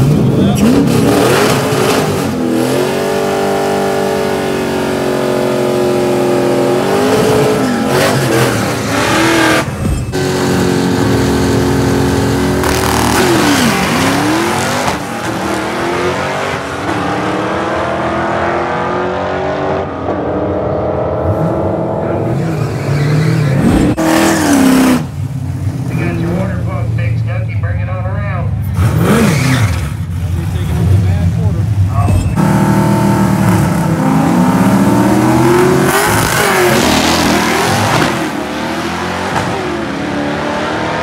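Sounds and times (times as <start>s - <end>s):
loud drag car engines revving: 0.0s - 41.0s.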